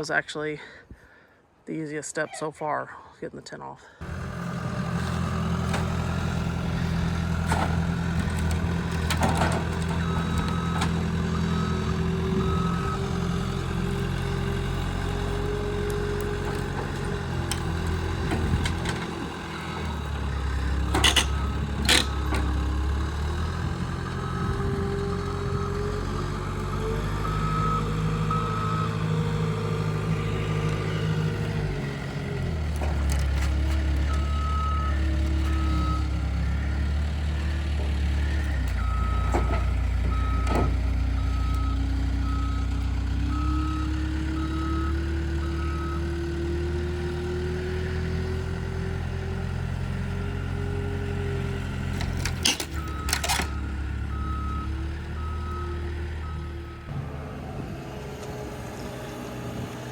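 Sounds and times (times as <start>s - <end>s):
heavy machine engine running: 4.0s - 59.9s.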